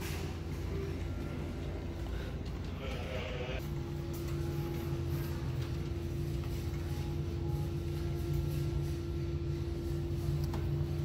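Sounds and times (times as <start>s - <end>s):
constant hum: 0.0s - 11.0s.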